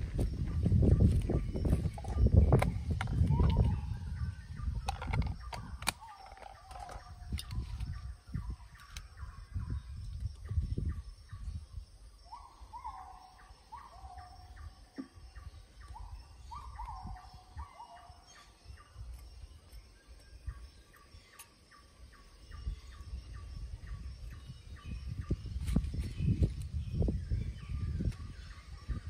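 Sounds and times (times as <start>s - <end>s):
birds calling: 0.0s - 11.6s, 12.2s - 29.0s.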